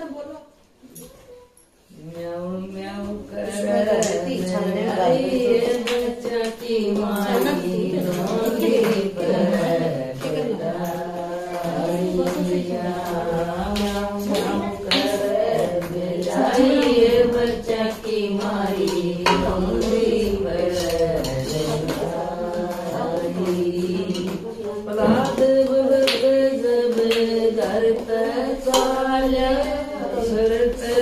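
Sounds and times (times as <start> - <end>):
women singing a hymn: 1.9 - 31.0
hand claps: 3.8 - 20.4, 21.2 - 31.0.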